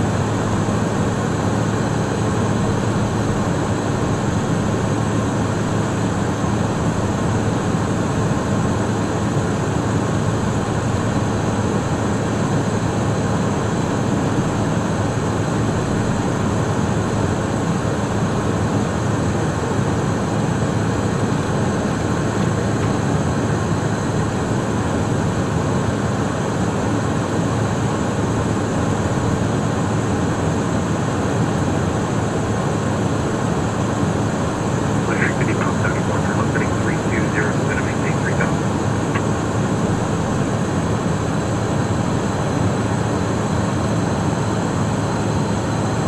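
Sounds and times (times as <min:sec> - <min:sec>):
jet engine hum: 0:00.0 - 0:46.0.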